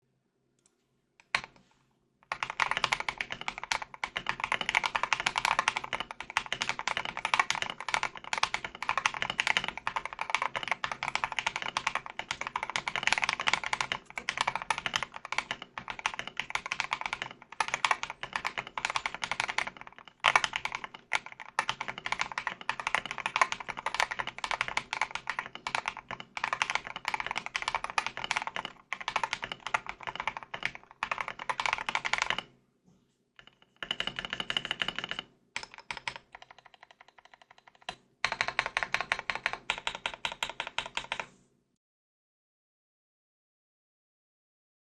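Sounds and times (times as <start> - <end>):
typing on mechanical keyboard: 1.2 - 1.6, 2.2 - 32.5, 33.4 - 41.3.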